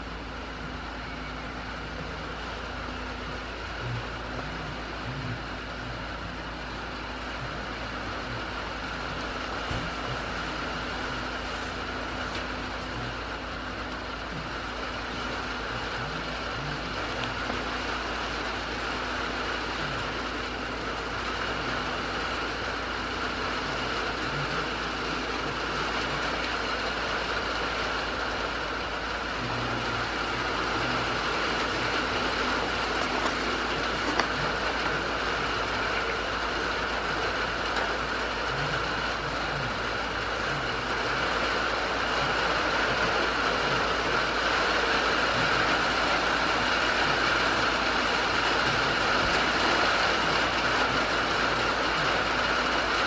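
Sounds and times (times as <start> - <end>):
rain on a wooden roof: 0.0 - 53.0.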